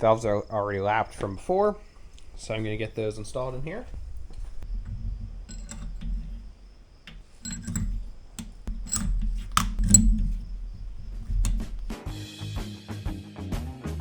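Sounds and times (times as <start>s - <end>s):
metallic clicks and clinks: 0.0s - 12.0s
low rumble of handling: 0.0s - 12.1s.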